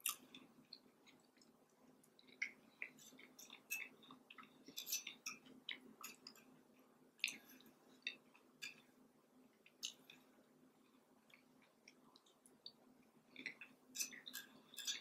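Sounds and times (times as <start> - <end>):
person chewing: 0.0 - 6.5, 7.2 - 8.9, 9.6 - 15.0
faint steady hum: 0.0 - 15.0.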